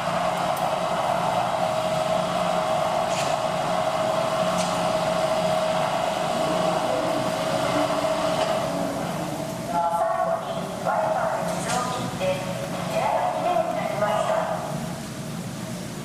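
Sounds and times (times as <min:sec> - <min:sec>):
mechanical whirring hum: 0:00.0 - 0:16.0.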